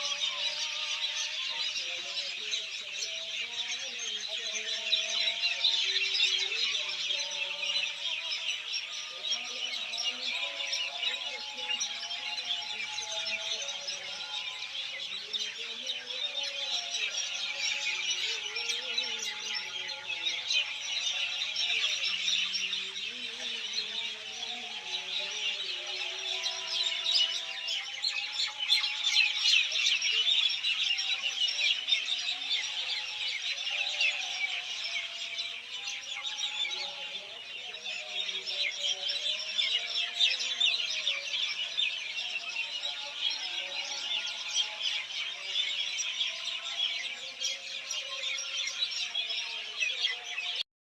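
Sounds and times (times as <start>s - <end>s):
small birds chirping: 0.0s - 50.6s.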